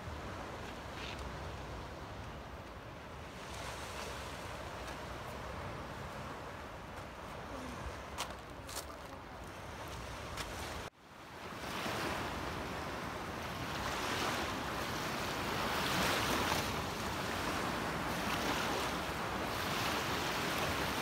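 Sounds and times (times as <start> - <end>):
small waves breaking on beach: 3.0 - 21.0.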